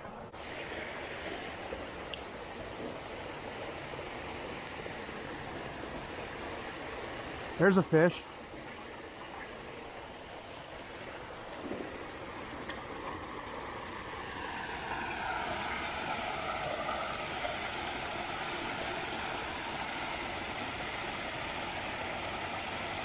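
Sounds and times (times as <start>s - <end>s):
aircraft drone overhead: 0.0s - 23.0s
rushing spillway water: 0.1s - 23.0s.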